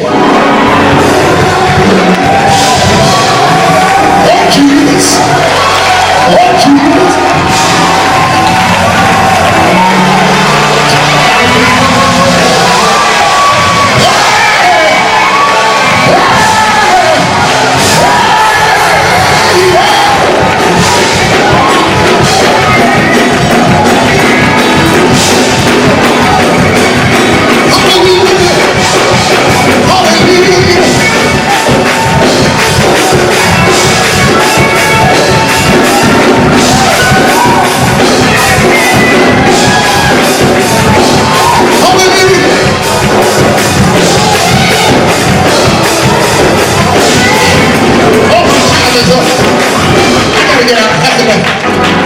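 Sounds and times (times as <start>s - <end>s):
congregation shouting and singing: 0.0s - 52.0s
loud gospel music: 0.0s - 52.0s.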